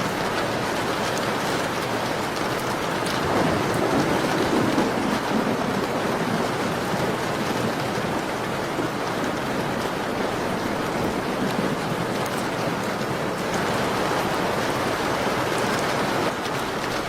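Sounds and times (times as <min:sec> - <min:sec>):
rain against a window: 0:00.0 - 0:17.0.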